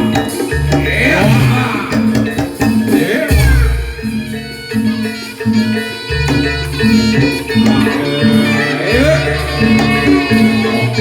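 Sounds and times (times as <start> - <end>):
music with a steady beat: 0.0 - 11.0.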